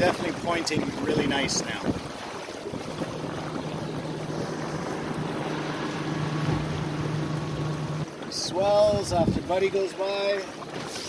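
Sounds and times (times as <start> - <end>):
water hissing against hull: 0.0 - 9.7, 10.4 - 11.0
motorboat engine hum: 0.0 - 11.0
wind: 0.0 - 11.0.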